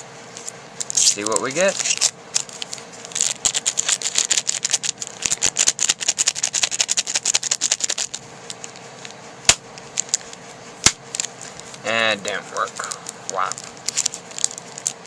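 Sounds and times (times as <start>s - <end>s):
foil wrapper crinkling and tearing: 0.8s - 9.2s, 9.9s - 11.9s, 12.5s - 15.0s.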